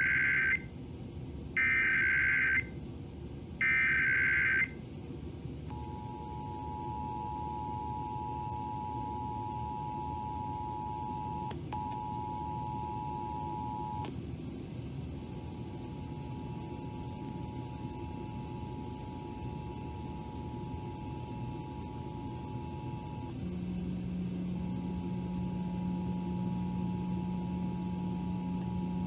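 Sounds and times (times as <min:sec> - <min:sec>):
low hum: 0:05.6 - 0:29.0.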